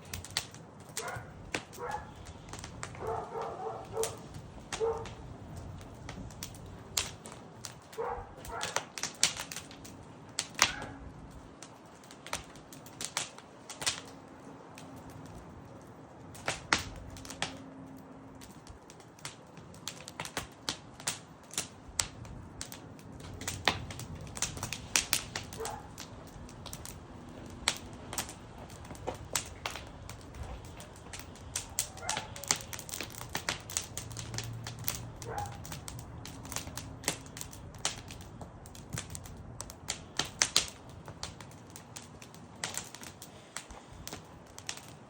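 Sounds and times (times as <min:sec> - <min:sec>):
campfire wood crackling: 0:00.0 - 0:45.0.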